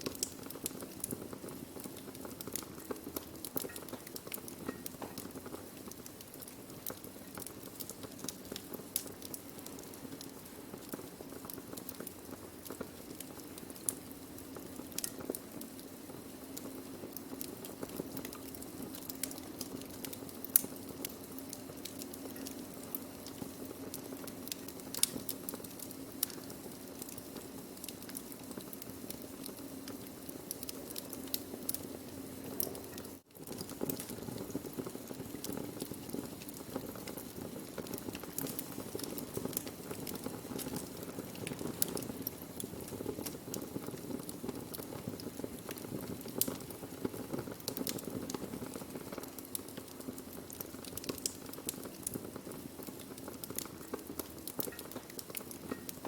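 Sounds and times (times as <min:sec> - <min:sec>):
burning wood crackling: 0:00.0 - 0:56.0.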